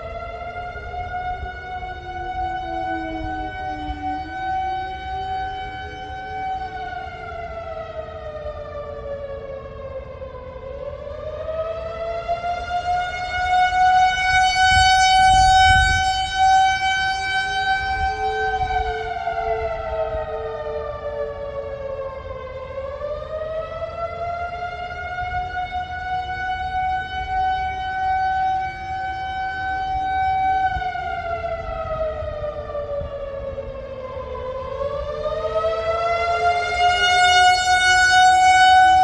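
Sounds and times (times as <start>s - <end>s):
warning siren wailing: 0.0s - 39.0s.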